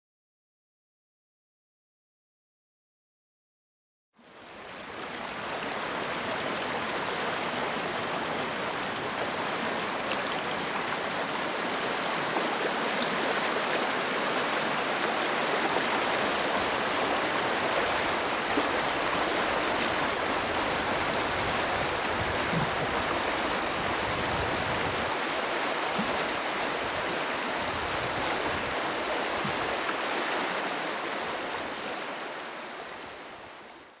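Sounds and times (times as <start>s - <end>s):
river rapids rushing over rocks: 4.8s - 33.5s.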